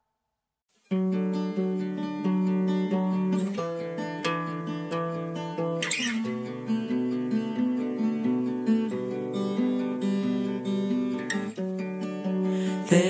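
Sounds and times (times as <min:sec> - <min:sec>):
fingerpicked acoustic guitar: 0:00.8 - 0:13.0.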